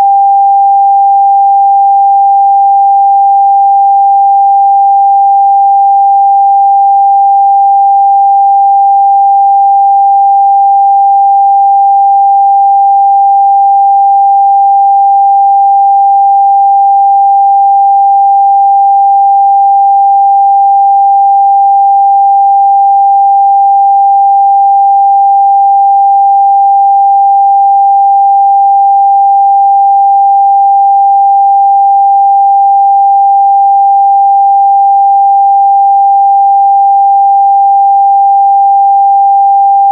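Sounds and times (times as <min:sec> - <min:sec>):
pure sine test tone: 0:00.0 - 0:39.9.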